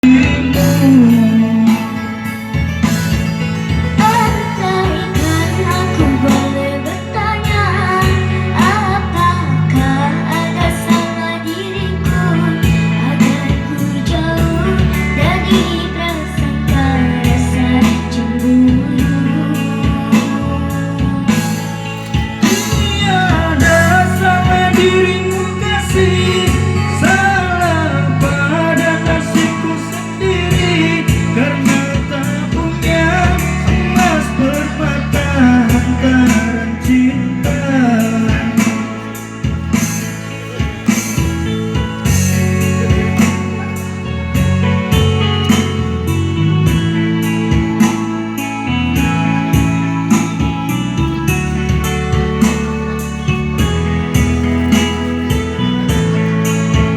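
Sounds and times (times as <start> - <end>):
guitar bass and drums: 0.0 - 56.9
person singing: 0.0 - 56.9.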